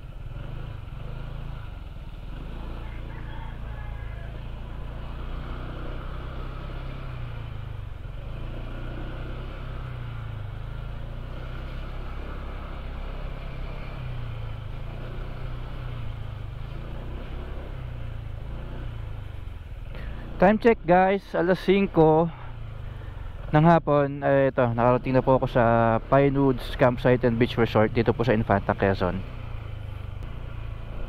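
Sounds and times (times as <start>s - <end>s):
scooter engine running: 0.0s - 31.0s
wind and road noise: 0.0s - 31.0s.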